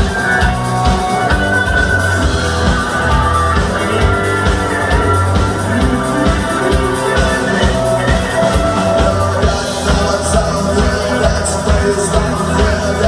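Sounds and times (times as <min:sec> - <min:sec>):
drum kit beat: 0:00.0 - 0:13.0
sustained rock chords: 0:00.0 - 0:13.0.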